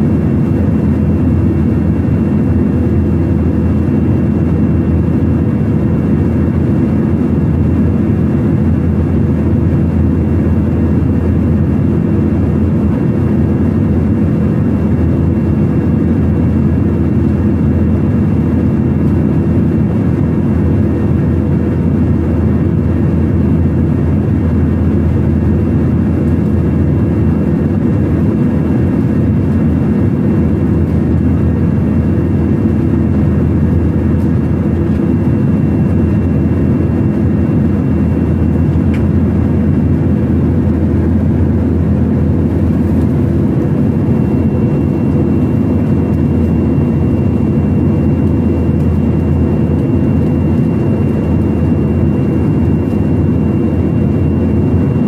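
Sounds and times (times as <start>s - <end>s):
jet cabin rumble: 0.0s - 55.0s.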